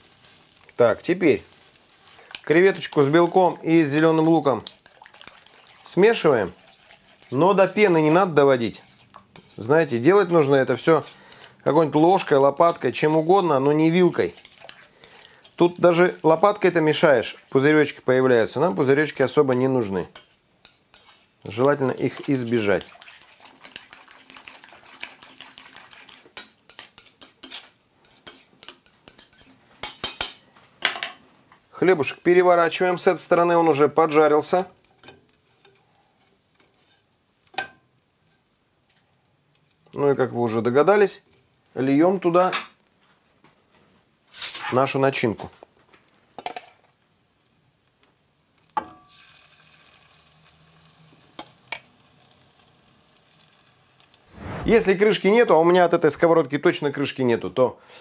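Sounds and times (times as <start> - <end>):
food sizzling in a frying pan: 0.0 - 30.5, 31.9 - 43.0, 44.3 - 55.5.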